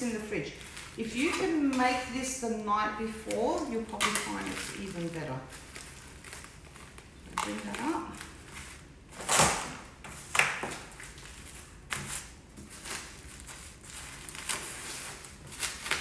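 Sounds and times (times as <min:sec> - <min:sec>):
cling wrap rustling and crinkling: 0:00.0 - 0:16.0.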